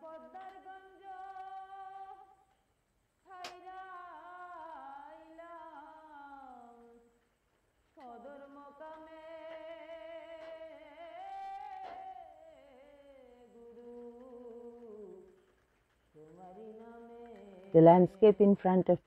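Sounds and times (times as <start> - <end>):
person singing unaccompanied: 0.0 - 19.0.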